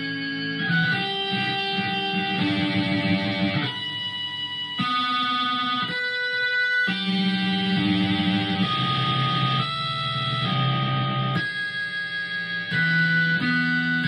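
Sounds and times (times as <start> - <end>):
electric guitar with wah: 0.0 - 14.0.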